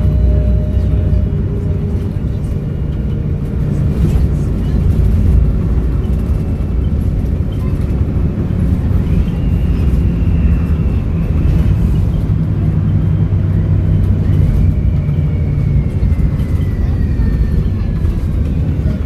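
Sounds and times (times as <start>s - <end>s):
bus engine under load: 0.0s - 19.0s.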